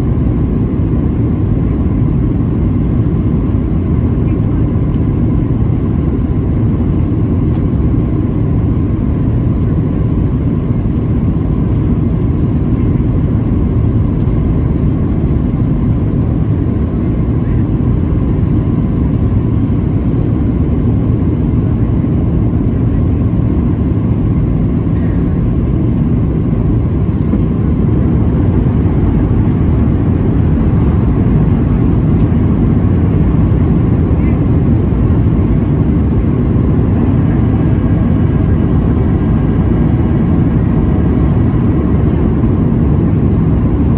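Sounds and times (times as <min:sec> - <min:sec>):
faint steady whine: 0:00.0 - 0:43.9
jet engines and wheels rumbling: 0:00.0 - 0:43.9.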